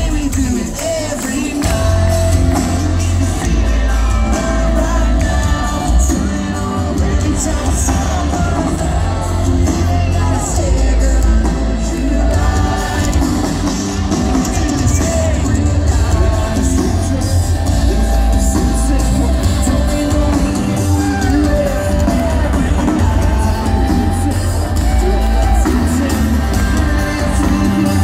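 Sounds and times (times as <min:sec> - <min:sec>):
crowd shouting: 0:00.0 - 0:28.0
heavy bass: 0:00.0 - 0:28.0
live country band playing: 0:00.0 - 0:28.0
man singing: 0:00.0 - 0:28.0.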